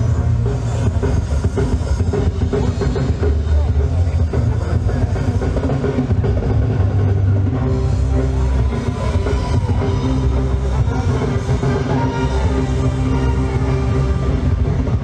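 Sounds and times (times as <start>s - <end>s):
music with heavy bass and drums: 0.0s - 15.0s.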